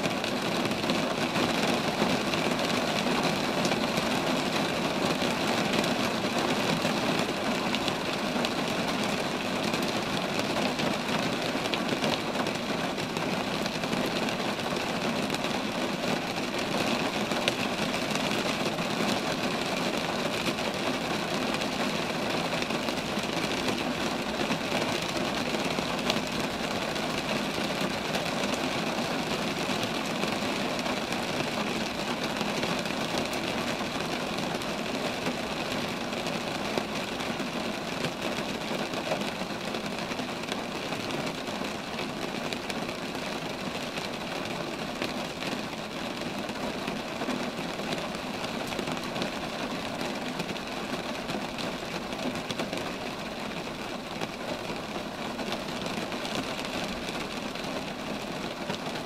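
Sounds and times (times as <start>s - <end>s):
rain falling among trees: 0.0s - 59.0s.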